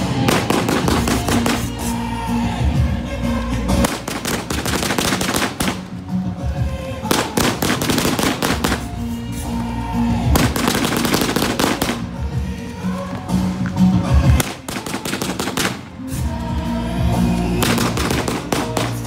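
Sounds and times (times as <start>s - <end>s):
fireworks crackling and popping: 0.0s - 19.0s
loud music with bass line: 0.0s - 19.0s.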